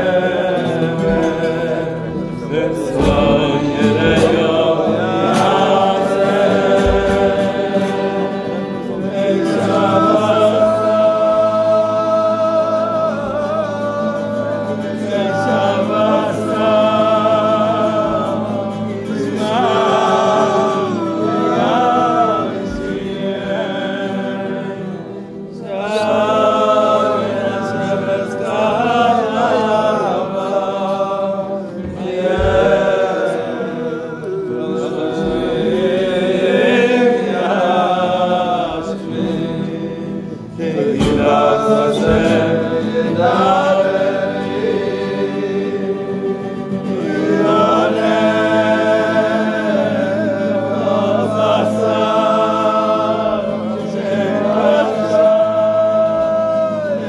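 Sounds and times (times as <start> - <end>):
group of voices singing: 0.0 - 57.0.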